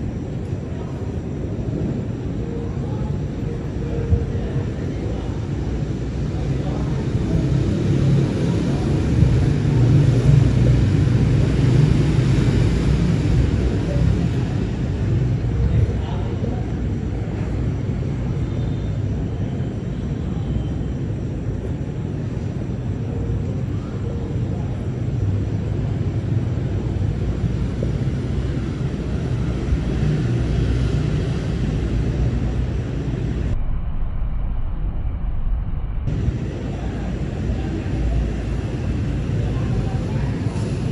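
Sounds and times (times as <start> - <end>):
low thunder rumble: 0.0 - 23.6, 24.4 - 40.9.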